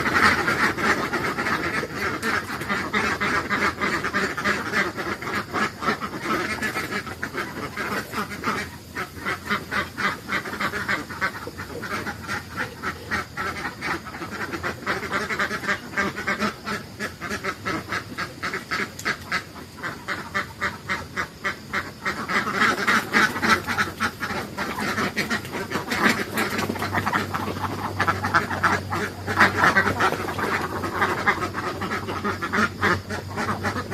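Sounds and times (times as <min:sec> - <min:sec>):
ducks quacking: 0:00.0 - 0:33.9.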